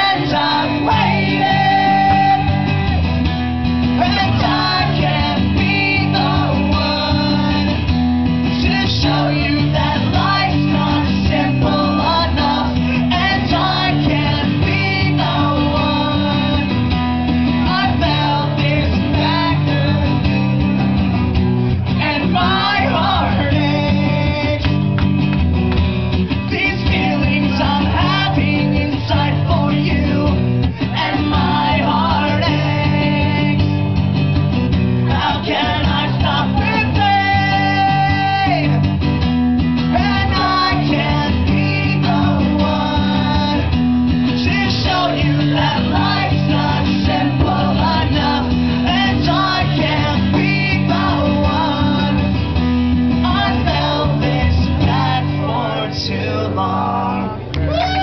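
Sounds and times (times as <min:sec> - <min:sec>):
strummed acoustic guitars: 0:00.0 - 0:58.0.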